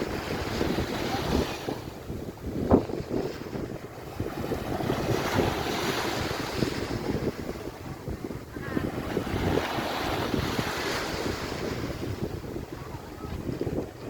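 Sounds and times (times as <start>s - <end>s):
surf washing: 0.0s - 14.0s
wind buffeting microphone: 0.0s - 14.0s.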